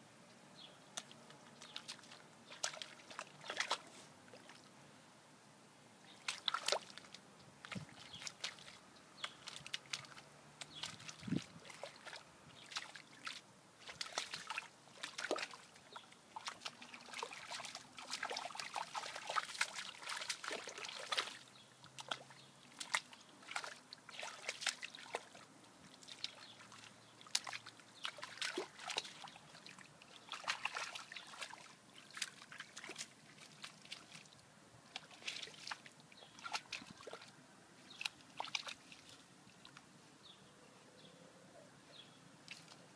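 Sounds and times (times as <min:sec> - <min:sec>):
dog splashing in puddle: 0:01.0 - 0:04.6, 0:06.1 - 0:39.2.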